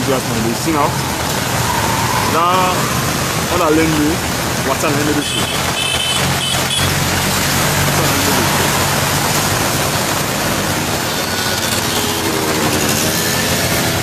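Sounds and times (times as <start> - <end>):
floodwater rushing: 0.0 - 14.0
vehicle engine humming: 0.0 - 14.0.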